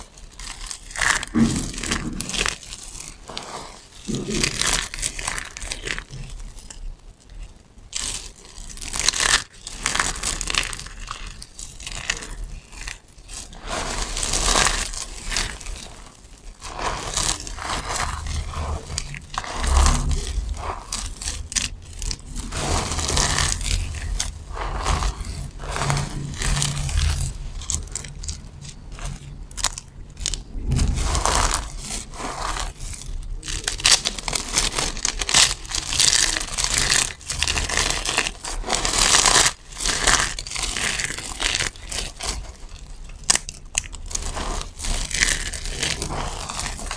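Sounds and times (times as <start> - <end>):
hands crunching soap shavings: 0.0 - 46.9.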